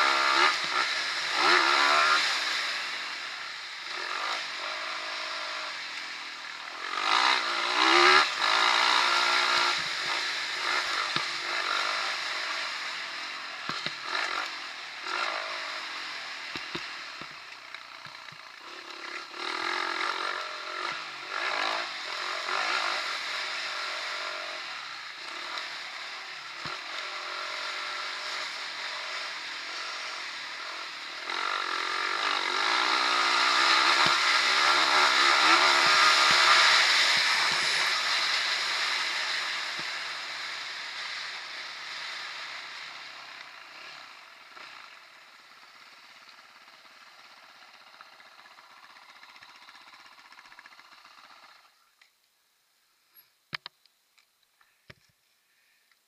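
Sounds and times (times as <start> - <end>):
dirt bike engine revving: 0.0 - 51.8.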